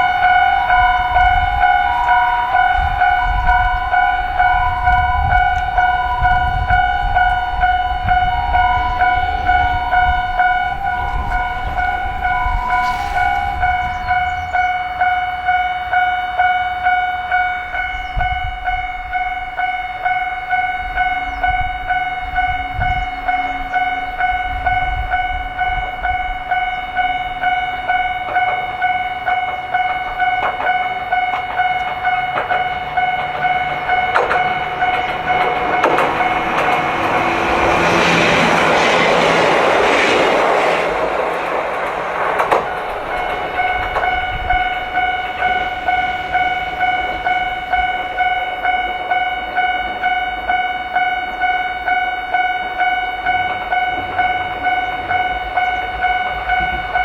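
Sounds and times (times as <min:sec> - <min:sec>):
level-crossing warning bell ringing: 0:00.0 - 0:57.0
train rumbling past: 0:00.0 - 0:57.0.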